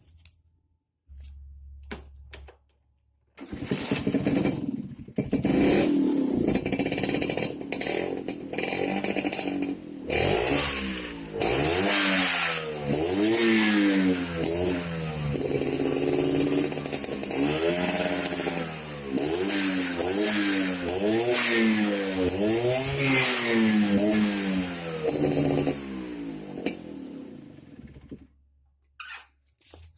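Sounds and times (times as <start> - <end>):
scooter engine revving: 3.4 - 28.2.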